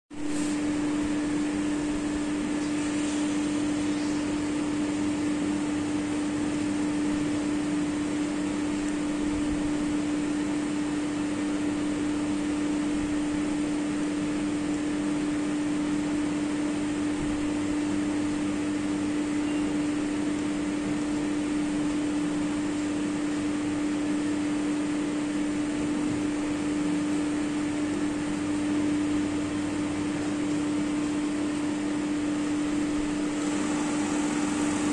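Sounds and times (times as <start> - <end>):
fan humming: 0.1 - 34.9.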